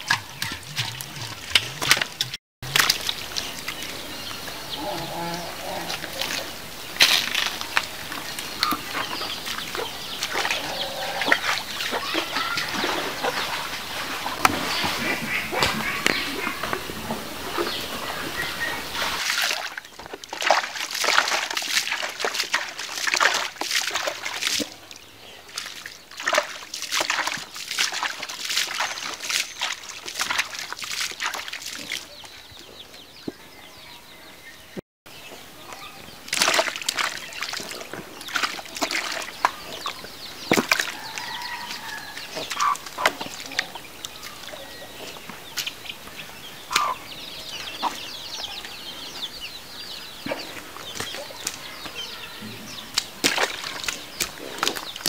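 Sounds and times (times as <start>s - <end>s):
water splashing and sloshing: 0.0s - 33.4s, 35.4s - 55.0s.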